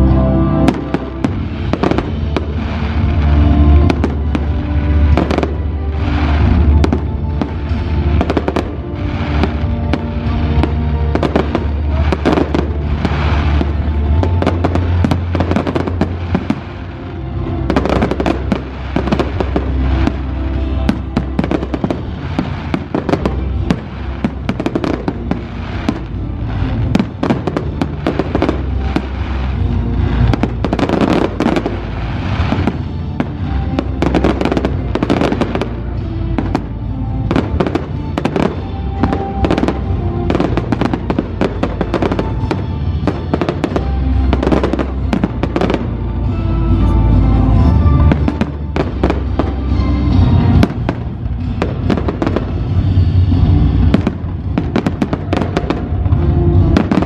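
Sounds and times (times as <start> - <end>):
fireworks bangs and crackles: 0.0 - 57.0
music playing: 0.0 - 57.0.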